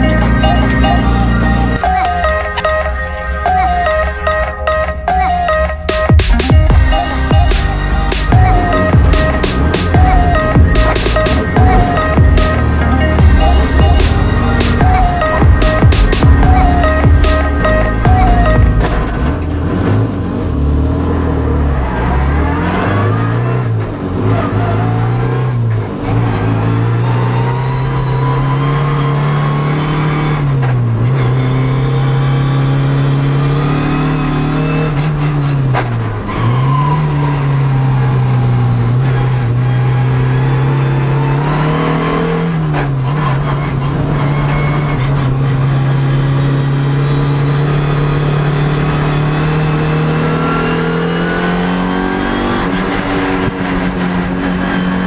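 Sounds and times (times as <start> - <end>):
car engine revving hard: 6.7 - 55.0.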